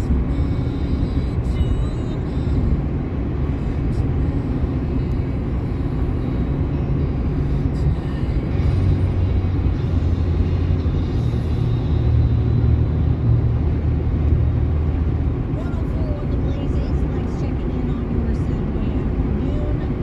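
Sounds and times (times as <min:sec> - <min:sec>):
truck engine and road drone: 0:00.0 - 0:20.0.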